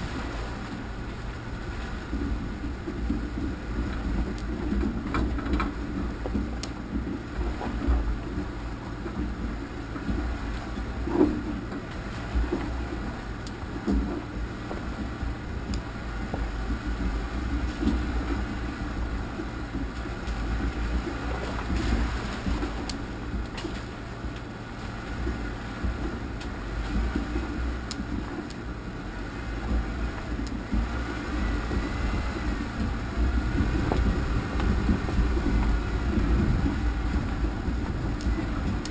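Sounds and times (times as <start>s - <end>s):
off-road vehicle engine rumble: 0.0s - 38.9s
clicks and knocks from rough ground: 1.8s - 28.8s, 29.7s - 38.9s.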